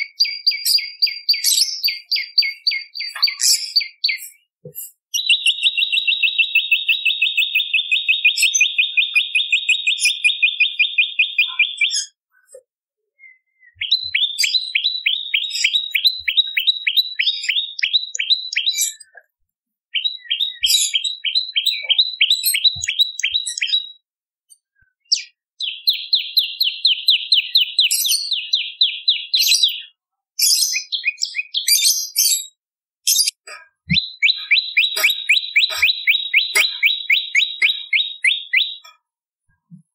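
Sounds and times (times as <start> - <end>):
bird singing fast trills: 0.0 - 4.4, 5.2 - 12.2, 13.2 - 19.1, 19.9 - 24.0, 25.0 - 30.0, 30.6 - 31.9, 33.1 - 38.9
high separate bird calls: 0.0 - 12.6, 13.2 - 19.2, 19.9 - 24.0, 24.6 - 39.0.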